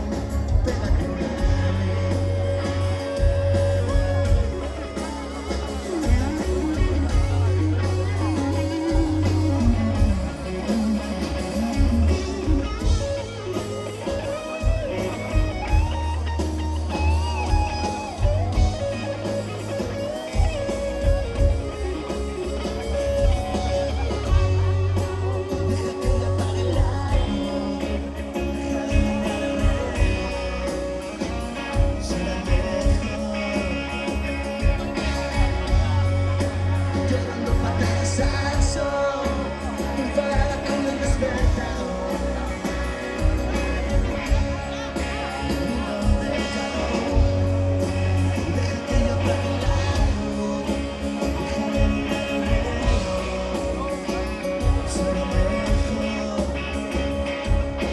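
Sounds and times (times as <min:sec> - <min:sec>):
person singing: 0:00.0 - 0:57.9
rock band playing: 0:00.0 - 0:57.9.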